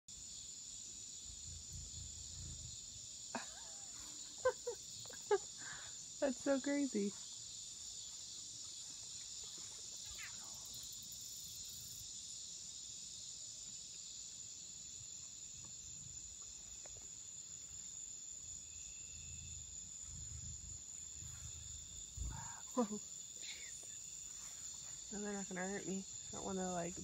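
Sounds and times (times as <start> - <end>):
crickets trilling: 0.1 - 27.0.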